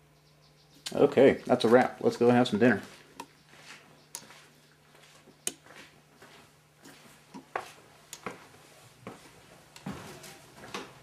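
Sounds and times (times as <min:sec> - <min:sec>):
footsteps indoors: 0:01.3 - 0:11.0.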